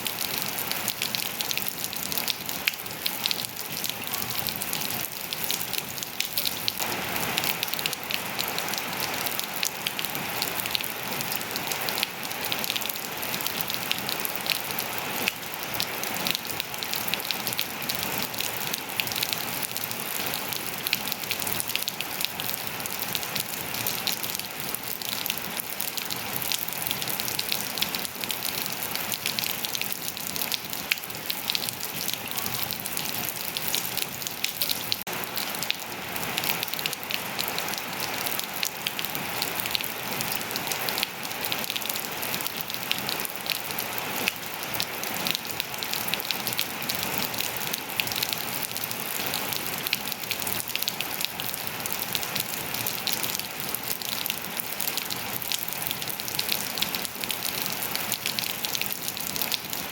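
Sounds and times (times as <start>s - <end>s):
rain on hard surfaces and foliage: 0.0s - 59.9s.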